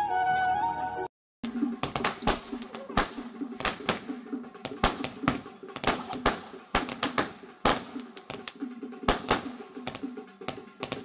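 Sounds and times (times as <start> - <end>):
fireworks cracking and popping: 1.8 - 11.0.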